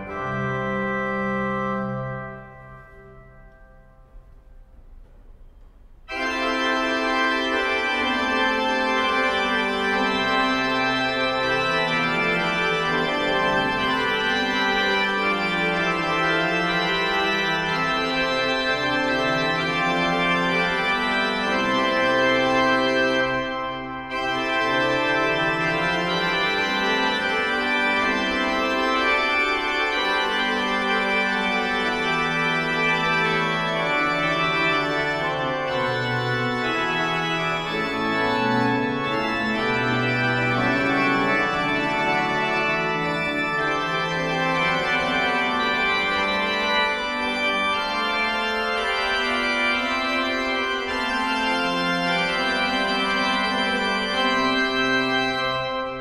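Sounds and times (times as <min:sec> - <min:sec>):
pipe organ playing chords: 0:00.0 - 0:56.0.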